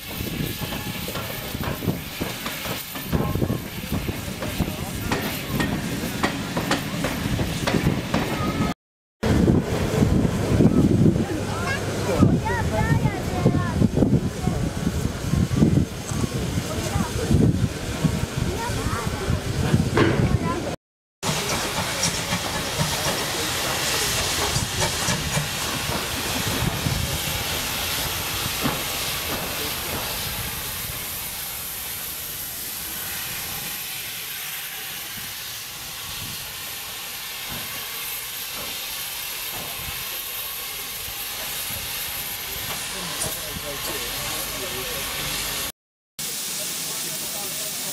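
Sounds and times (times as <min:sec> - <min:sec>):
train rumble and clatter: 0:00.0 - 0:45.7
steam hissing: 0:00.0 - 0:47.9.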